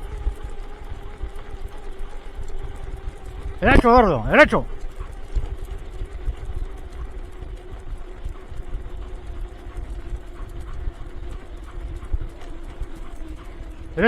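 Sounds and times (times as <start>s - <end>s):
sled wheels rolling over pavement: 0.0s - 14.0s.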